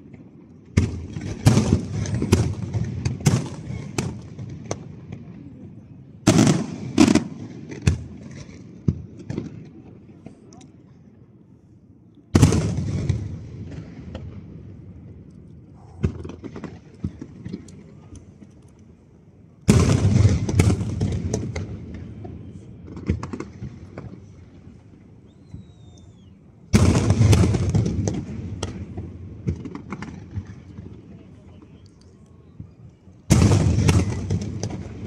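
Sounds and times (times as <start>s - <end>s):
fireworks booming and crackling: 0.0s - 10.5s, 12.3s - 18.4s, 19.6s - 31.8s, 32.5s - 35.0s
small fireworks pops: 0.0s - 11.0s, 12.1s - 35.0s.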